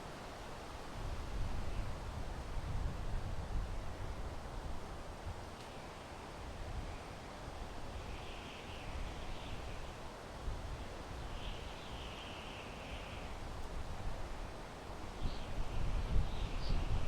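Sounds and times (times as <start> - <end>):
wind through pine trees: 0.0 - 17.0.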